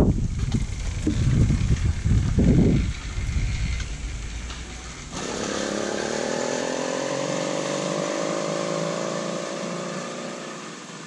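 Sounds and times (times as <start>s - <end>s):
two-stroke bicycle engine running: 0.0s - 11.0s.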